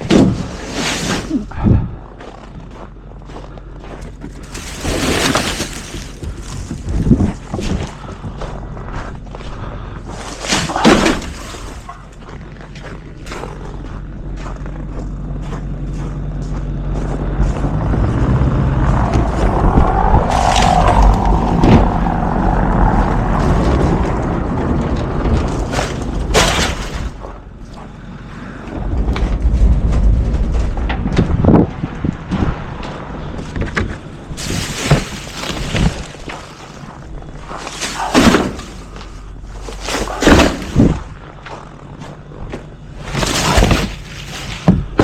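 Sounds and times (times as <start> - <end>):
garbage truck engine running: 0.0 - 45.0.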